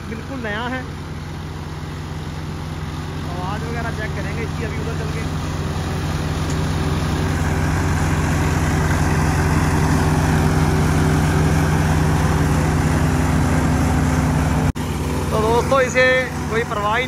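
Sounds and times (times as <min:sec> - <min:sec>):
reaper threshing and blower noise: 0:00.0 - 0:17.0
tractor diesel engine running: 0:00.0 - 0:17.0.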